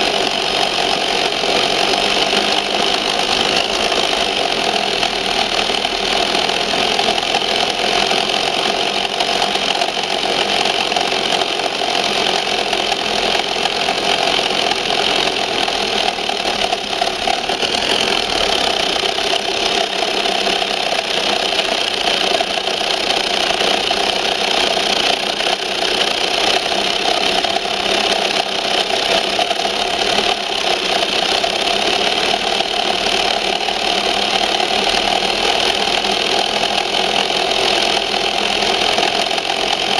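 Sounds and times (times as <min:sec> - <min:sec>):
toy truck motor whining: 0:00.0 - 0:39.9.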